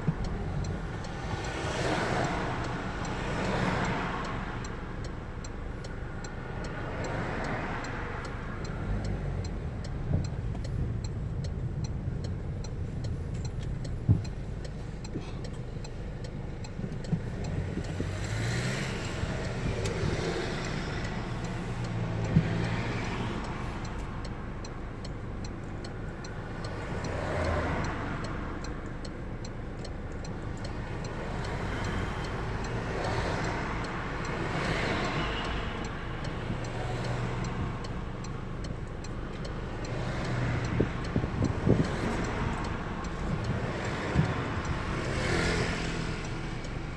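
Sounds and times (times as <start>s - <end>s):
car engine and road noise: 0.0s - 46.9s
faint regular ticking: 0.0s - 46.9s
passing traffic: 0.0s - 46.9s.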